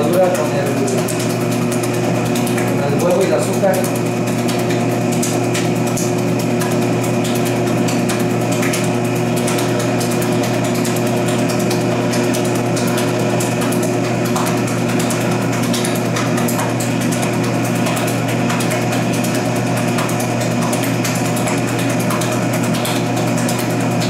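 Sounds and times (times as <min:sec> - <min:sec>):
mixer motor humming: 0:00.0 - 0:24.0.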